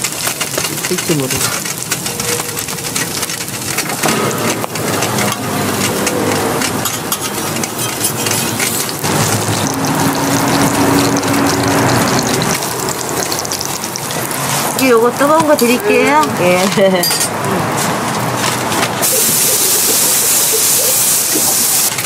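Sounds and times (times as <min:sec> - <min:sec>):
pancakes sizzling in oil: 0:00.0 - 0:16.1, 0:19.0 - 0:22.0.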